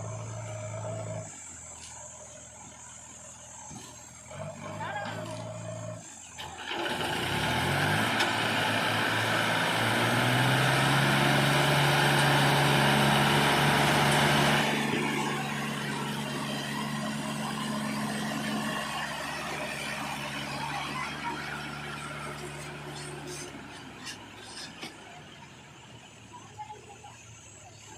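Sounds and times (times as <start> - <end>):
diesel engine revving: 0.0 - 27.9.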